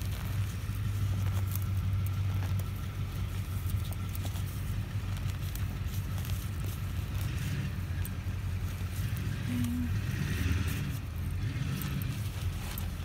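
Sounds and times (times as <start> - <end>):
low machine hum: 0.0 - 13.0
roots and soil crackling: 0.0 - 13.0.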